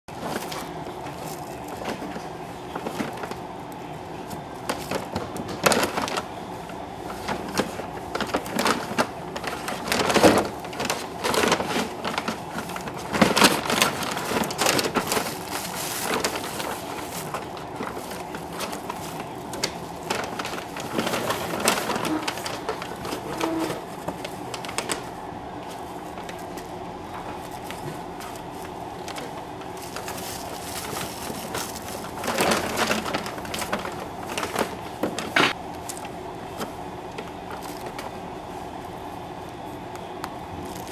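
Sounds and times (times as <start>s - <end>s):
paper bag crinkling: 0.1s - 40.9s
steady hum: 0.1s - 40.9s.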